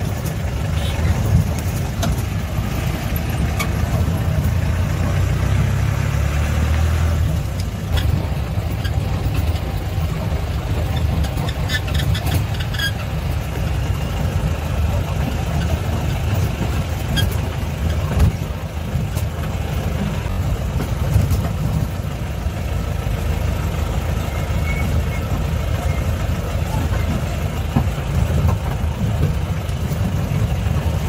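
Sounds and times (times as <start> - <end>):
engine running at low speed: 0.0 - 31.0
tires on rough gravel: 0.0 - 31.0.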